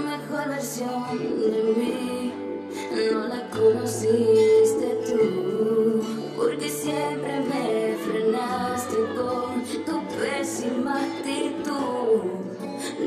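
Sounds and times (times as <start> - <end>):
guitar: 0.0 - 13.0
person singing: 0.0 - 13.0.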